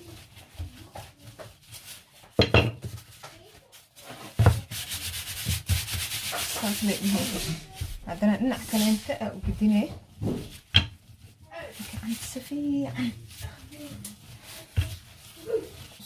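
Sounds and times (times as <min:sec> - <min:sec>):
gloved hands rubbing dough: 0:00.0 - 0:16.0
rustle of gloves and flour: 0:00.0 - 0:16.0.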